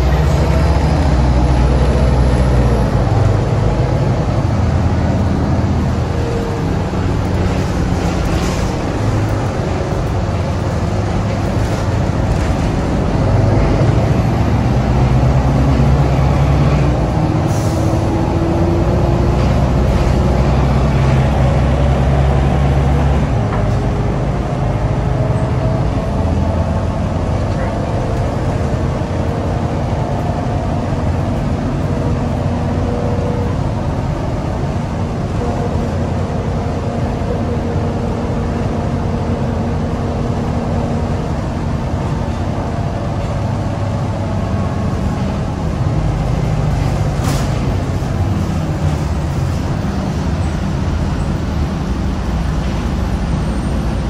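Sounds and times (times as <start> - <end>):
bus diesel engine droning: 0.0 - 54.0
road rumble: 0.0 - 54.0.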